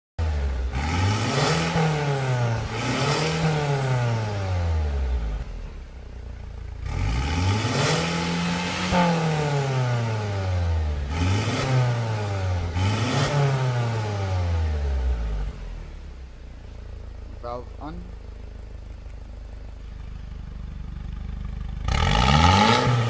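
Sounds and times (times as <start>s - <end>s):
car engine revving: 0.2s - 23.0s.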